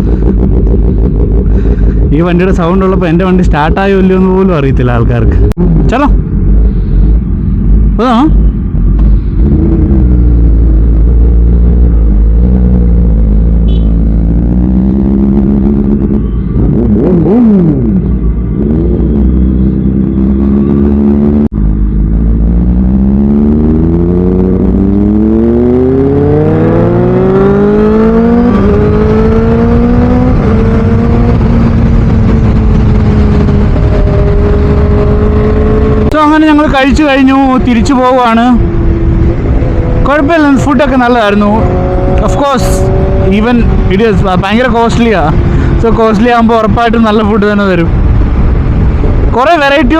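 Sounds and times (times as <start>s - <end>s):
motorcycle engine accelerating: 0.0s - 4.6s, 5.3s - 49.9s.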